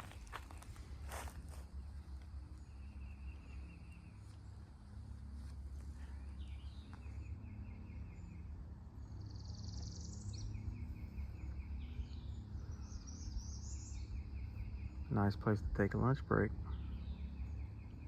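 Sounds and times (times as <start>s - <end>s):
birds calling: 0.0s - 18.0s
low steady rumble: 0.0s - 18.0s.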